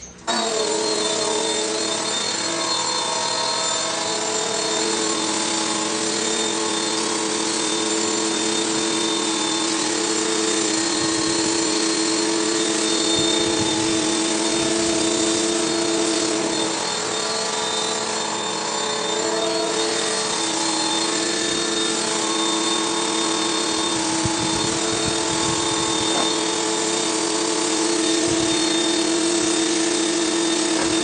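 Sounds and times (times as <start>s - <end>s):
pressure washer motor hum: 0.0s - 31.0s
high-pressure water jet hissing: 0.2s - 31.0s.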